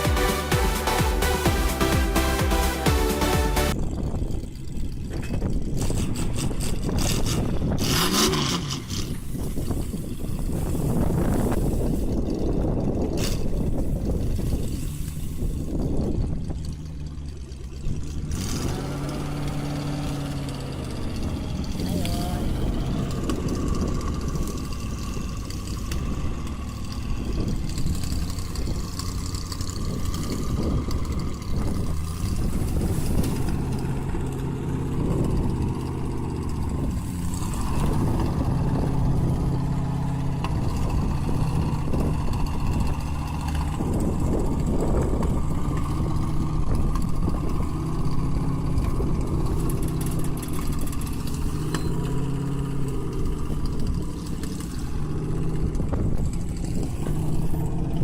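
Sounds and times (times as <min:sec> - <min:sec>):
large vehicle engine humming: 0:00.0 - 0:58.0.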